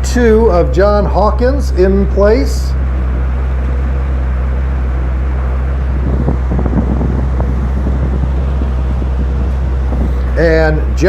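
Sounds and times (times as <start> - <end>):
motorcycle engines running: 0.0 - 11.0
steady low hum: 0.0 - 11.0.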